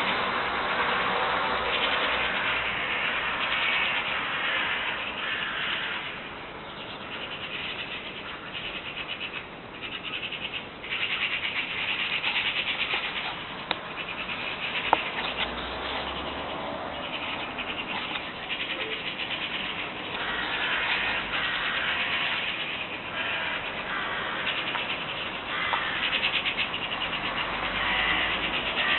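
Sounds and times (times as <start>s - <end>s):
distant traffic hum: 0.0s - 28.9s
songbirds chirping and trilling: 0.0s - 28.9s.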